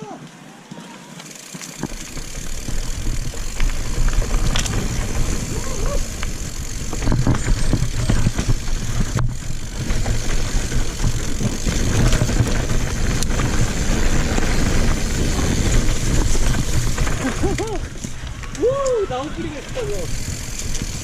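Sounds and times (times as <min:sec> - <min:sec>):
tyres over dirt and rocks: 0:00.2 - 0:21.0
bike rattling: 0:01.1 - 0:21.0.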